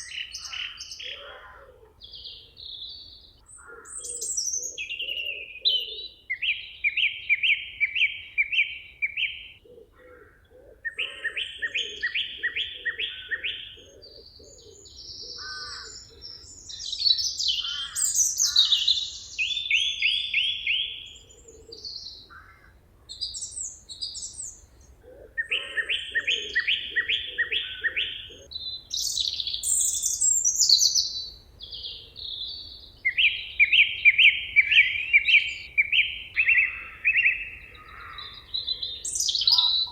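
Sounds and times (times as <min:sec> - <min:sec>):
birds chirping and whistling: 0:00.0 - 0:01.4, 0:02.0 - 0:09.6, 0:10.9 - 0:22.4, 0:23.1 - 0:24.8, 0:25.4 - 0:39.9.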